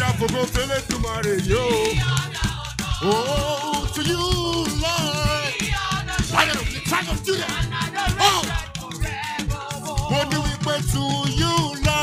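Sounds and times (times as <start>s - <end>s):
drum beat and percussion: 0.0s - 12.0s
choir singing: 1.4s - 11.9s.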